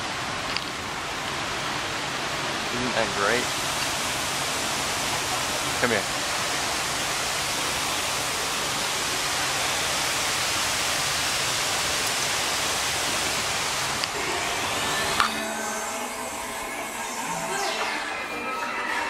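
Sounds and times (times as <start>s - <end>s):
fountain water rushing: 0.0s - 19.0s.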